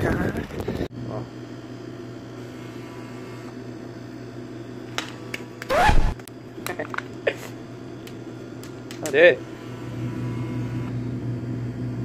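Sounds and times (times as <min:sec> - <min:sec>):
vending machine humming: 0:00.0 - 0:12.0
bill acceptor motor whirr: 0:01.0 - 0:06.3, 0:07.4 - 0:12.0.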